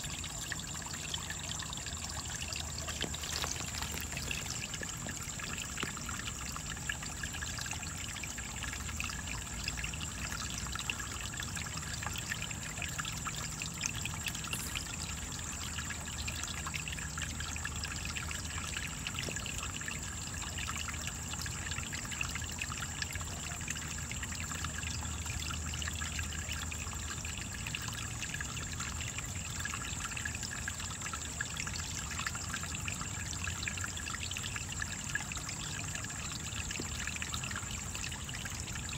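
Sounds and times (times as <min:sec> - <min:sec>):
faint high-pitched whine: 0:00.0 - 0:38.9
water trickling: 0:00.0 - 0:38.9.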